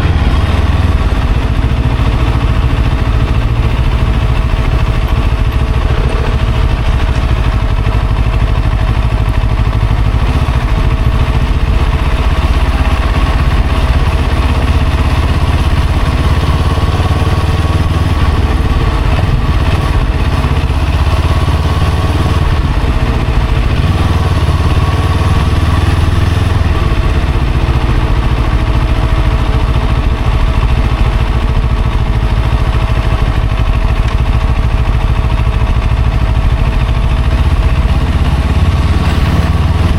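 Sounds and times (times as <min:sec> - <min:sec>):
motorcycle running: 0:00.0 - 0:39.9
traffic rumble: 0:00.0 - 0:39.9.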